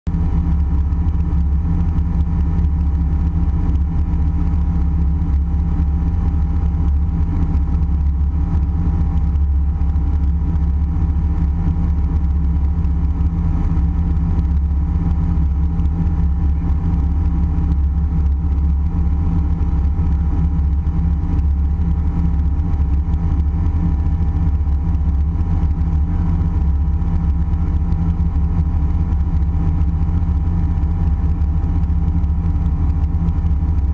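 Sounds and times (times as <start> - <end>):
airliner engine and airflow drone: 0.1 - 33.9
steady hum tones: 0.1 - 33.9.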